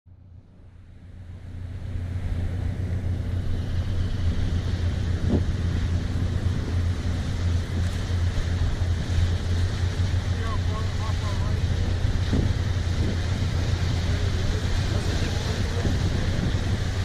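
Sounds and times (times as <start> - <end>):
boat engine droning: 0.1 - 17.0
wind buffeting microphone: 1.0 - 17.0.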